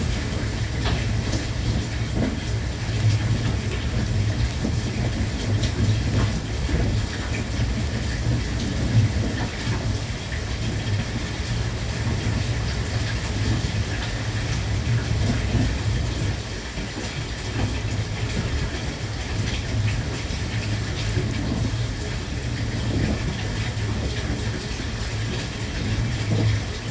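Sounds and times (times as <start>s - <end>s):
train rumble inside carriage: 0.0s - 26.9s.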